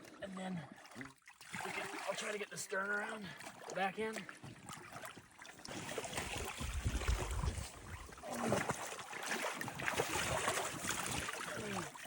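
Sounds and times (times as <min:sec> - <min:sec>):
water sloshing around boat: 0:00.0 - 0:12.0.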